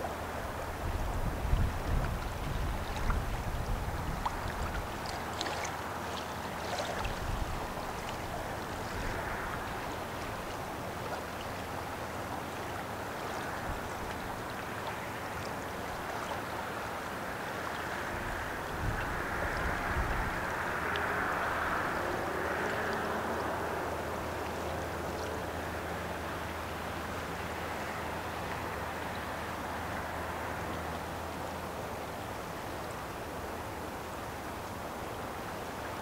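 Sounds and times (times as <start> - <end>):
wind rumbling on microphone: 0.0 - 31.4
river water rushing and lapping: 0.0 - 36.0.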